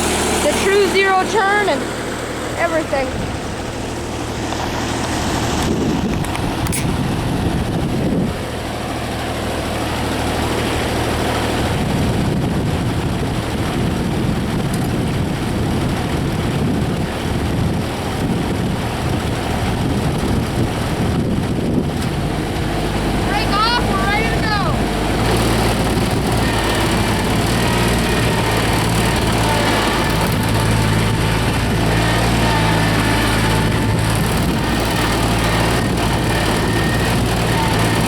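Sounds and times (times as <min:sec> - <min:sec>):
mower diesel engine running: 0:00.0 - 0:38.0.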